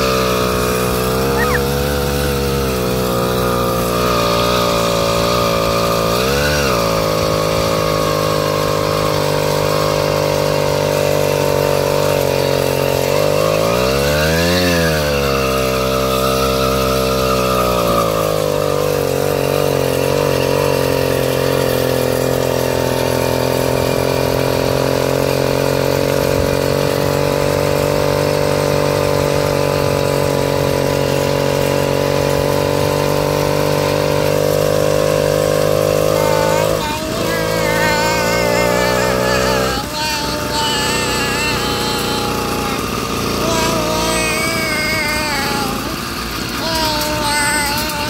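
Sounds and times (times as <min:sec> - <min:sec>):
small engine running and revving: 0:00.0 - 0:48.0.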